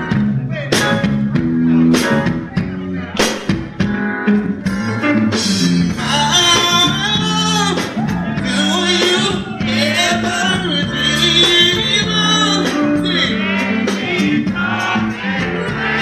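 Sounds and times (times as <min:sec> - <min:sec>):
bass and drums groove: 0:00.0 - 0:16.0.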